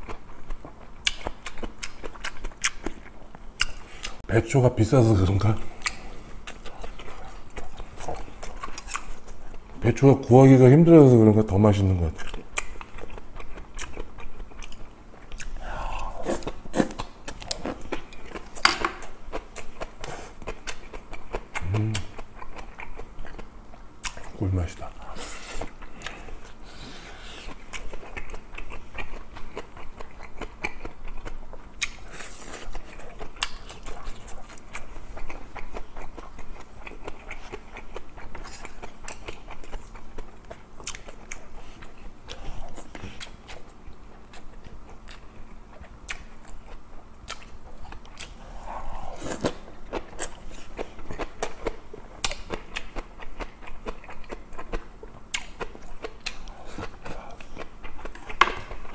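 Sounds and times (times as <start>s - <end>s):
person chewing and biting: 0.0s - 4.2s, 5.7s - 9.8s, 12.2s - 58.9s.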